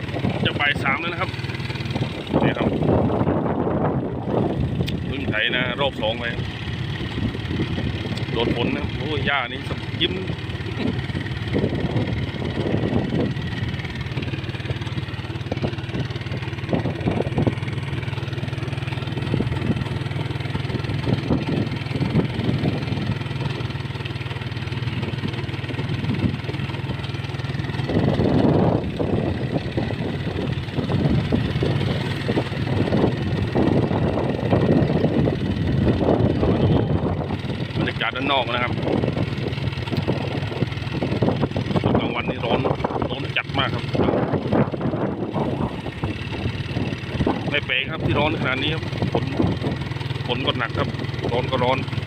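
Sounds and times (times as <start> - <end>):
vehicle engine humming: 0.0 - 52.0.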